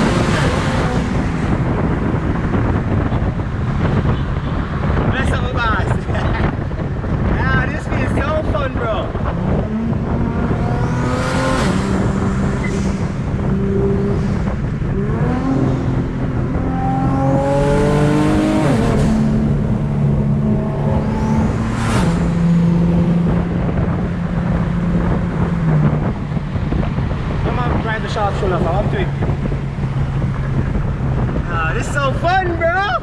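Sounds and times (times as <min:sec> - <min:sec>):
car engine running at speed: 0:00.0 - 0:32.2
vehicles rushing past: 0:00.0 - 0:33.0.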